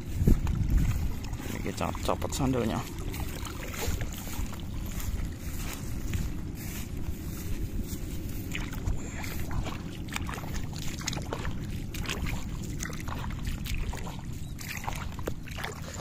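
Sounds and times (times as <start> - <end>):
footsteps wading through water: 0.0 - 16.0
wind noise on microphone: 0.0 - 16.0
small splashes: 0.3 - 6.8, 8.3 - 16.0.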